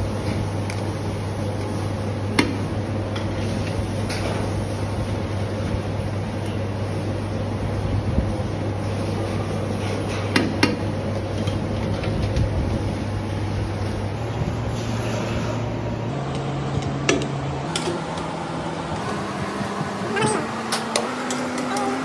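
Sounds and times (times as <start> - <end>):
kitchen hum: 0.0 - 22.0.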